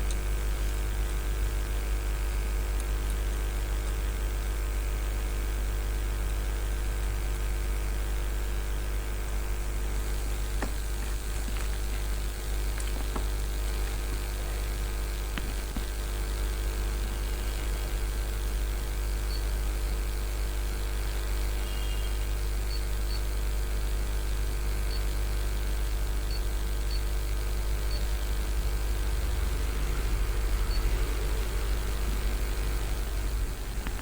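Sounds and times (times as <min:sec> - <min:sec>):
electrical hum with fan whir: 0:00.0 - 0:34.0.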